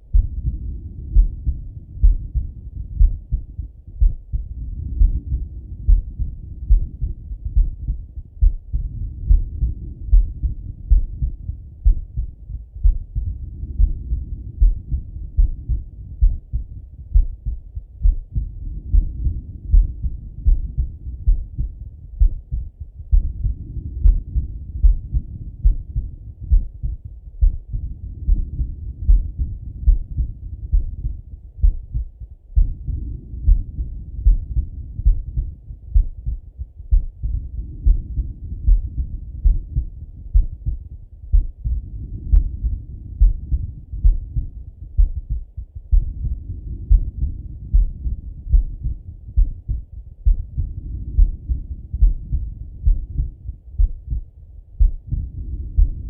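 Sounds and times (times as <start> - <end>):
heartbeat thumps: 0.0 - 56.0.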